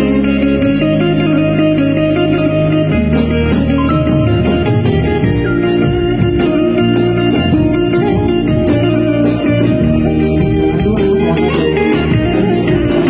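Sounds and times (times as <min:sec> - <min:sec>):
guitar band music with bass: 0:00.0 - 0:13.0.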